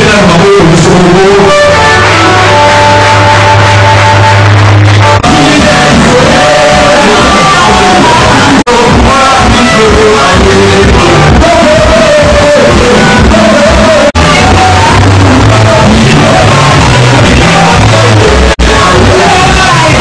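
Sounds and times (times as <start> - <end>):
heavy bass line: 0.0 - 20.0
loud music with singing: 0.0 - 20.0.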